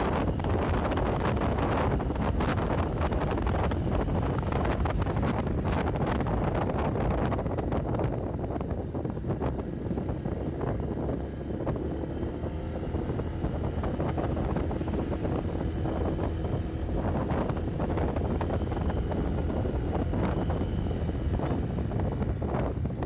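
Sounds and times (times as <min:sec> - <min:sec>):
motorbike engine running: 0:00.0 - 0:23.0
wind buffeting microphone: 0:00.0 - 0:23.0.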